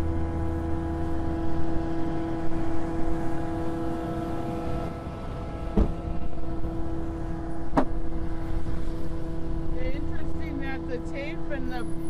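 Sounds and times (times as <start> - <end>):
truck engine running steadily: 0.0 - 12.0.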